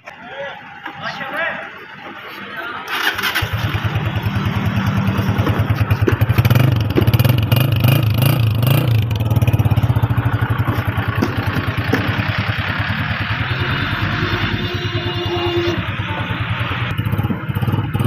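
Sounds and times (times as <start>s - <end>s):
motorcycle engine revving and idling: 2.9s - 18.0s.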